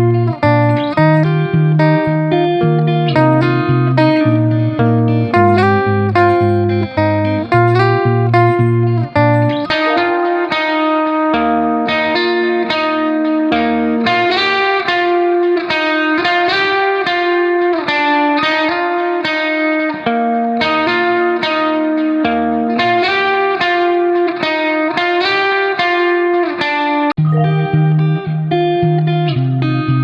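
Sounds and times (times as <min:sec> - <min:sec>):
plucked guitar melody: 0:00.0 - 0:30.0.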